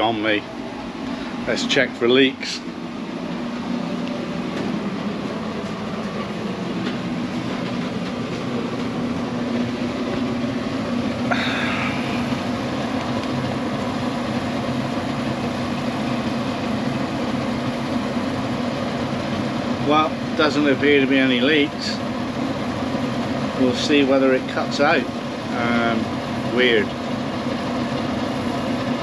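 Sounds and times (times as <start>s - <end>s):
air conditioning unit humming: 0.0s - 29.0s.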